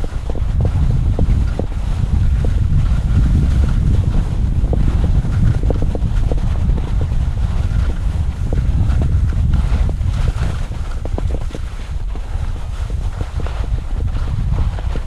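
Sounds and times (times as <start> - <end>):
skis scraping on snow: 0.0 - 15.0
wind rumbling on microphone: 0.0 - 15.0.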